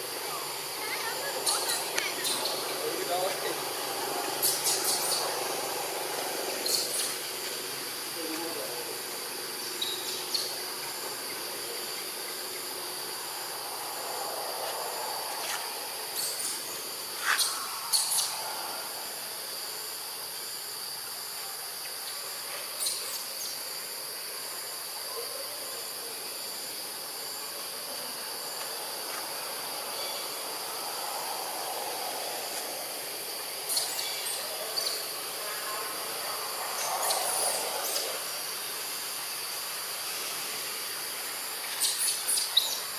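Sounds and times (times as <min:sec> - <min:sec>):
insect chorus: 0:00.0 - 0:42.9
pulsing insect call: 0:00.0 - 0:42.9.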